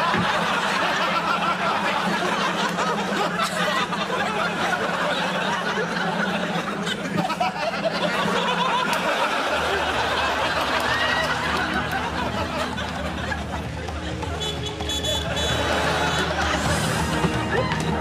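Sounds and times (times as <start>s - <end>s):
studio audience laughing: 0.0s - 18.0s.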